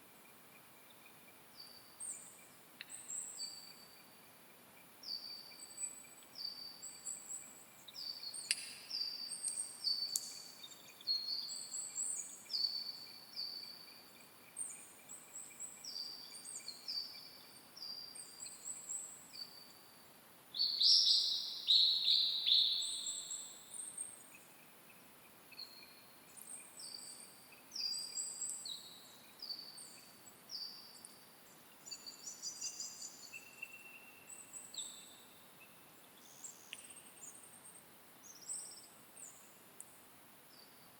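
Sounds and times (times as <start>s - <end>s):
birds singing: 5.1s - 19.8s, 20.6s - 25.0s, 25.6s - 39.5s.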